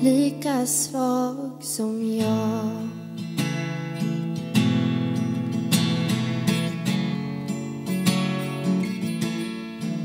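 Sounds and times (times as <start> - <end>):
acoustic guitar strummed chords: 0.0 - 10.0.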